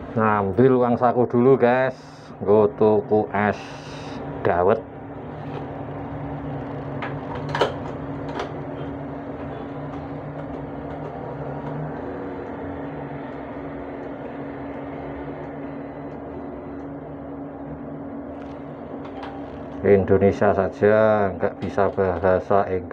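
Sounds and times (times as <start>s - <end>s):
electrical machine hum: 0.0s - 22.9s.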